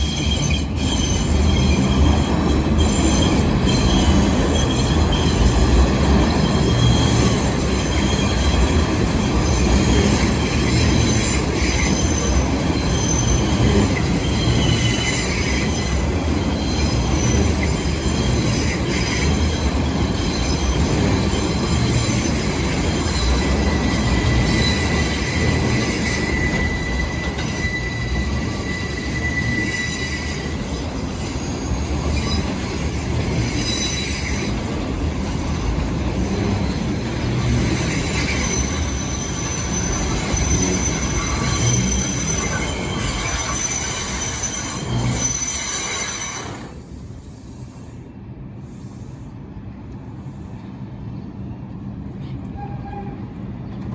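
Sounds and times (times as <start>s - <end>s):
high wheel squeal: 0.0s - 47.9s, 52.4s - 53.4s
train wheels rumbling on rail: 0.0s - 53.9s.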